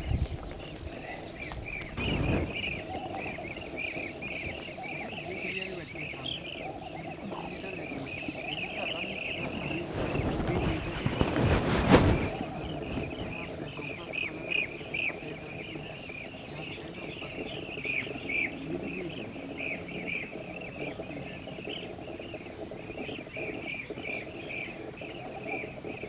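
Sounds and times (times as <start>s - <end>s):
birds chirping: 0.0s - 26.0s
low steady hum: 0.0s - 26.0s.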